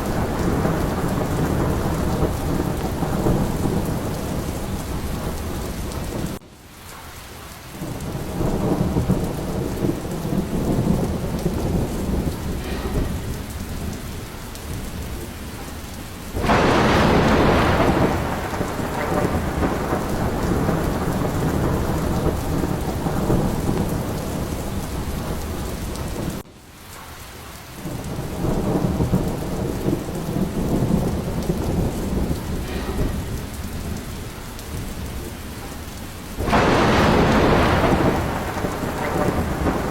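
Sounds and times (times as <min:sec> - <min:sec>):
sharp thunderclap: 0:00.0 - 0:06.4, 0:07.8 - 0:26.5, 0:27.8 - 0:39.9
heavy rain: 0:00.0 - 0:39.9
rolling thunder rumbling: 0:00.0 - 0:39.9.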